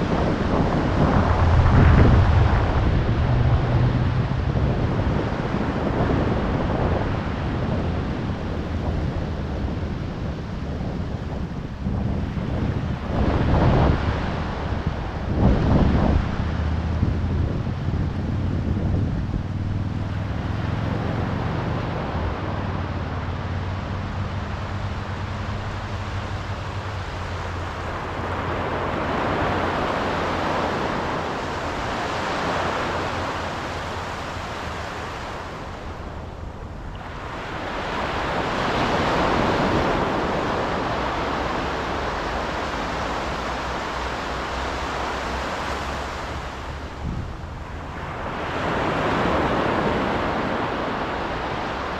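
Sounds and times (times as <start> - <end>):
ocean waves breaking: 0.0 - 51.9
wind on microphone: 0.0 - 51.9.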